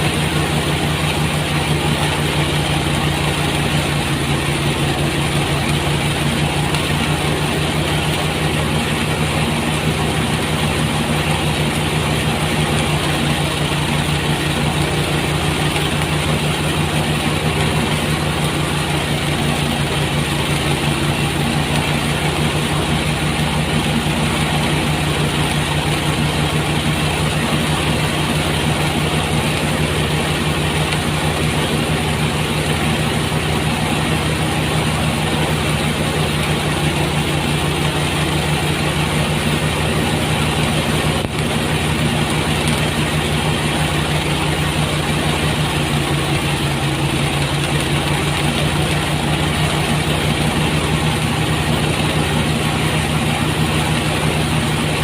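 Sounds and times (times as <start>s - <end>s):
threshing machine engine humming: 0.0s - 55.0s.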